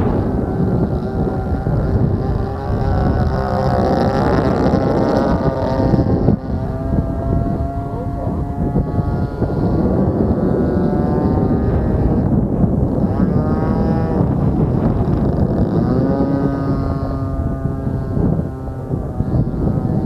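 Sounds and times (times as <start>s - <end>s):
model airplane engine buzzing: 0.0s - 20.0s.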